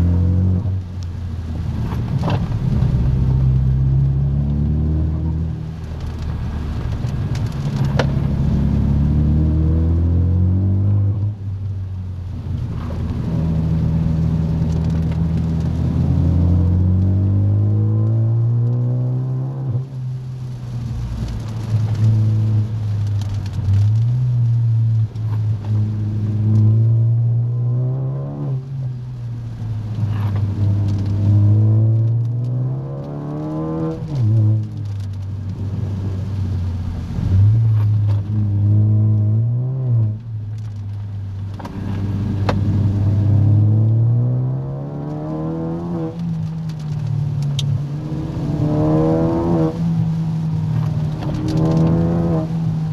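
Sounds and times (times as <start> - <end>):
car engine accelerating: 0.0 - 52.9
road and tyre noise: 0.0 - 52.9.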